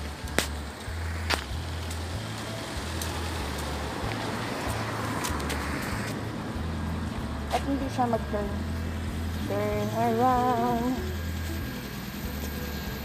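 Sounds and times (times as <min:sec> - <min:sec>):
street noise hiss and rumble: 0:00.0 - 0:13.0.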